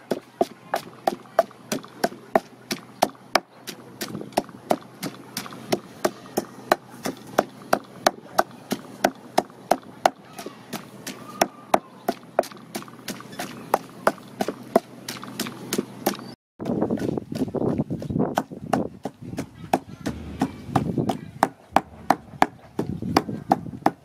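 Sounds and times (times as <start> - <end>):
pestle pounding in wooden mortar: 0.0 - 24.0.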